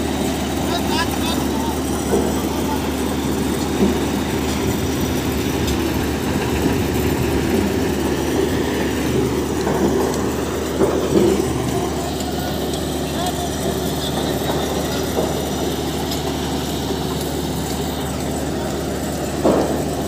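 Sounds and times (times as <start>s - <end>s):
roll-forming machine rumbling: 0.0s - 20.0s.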